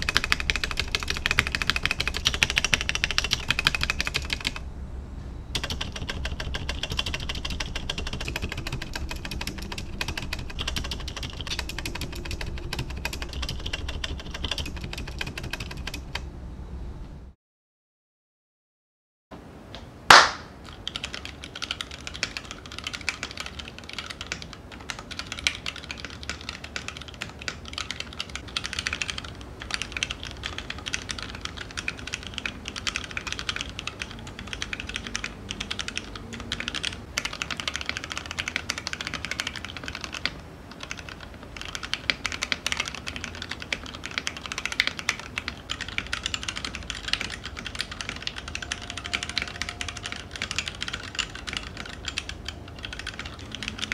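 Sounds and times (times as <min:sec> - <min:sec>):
fast typing on mechanical keyboard: 0:00.0 - 0:04.6, 0:05.6 - 0:16.3, 0:20.7 - 0:53.9.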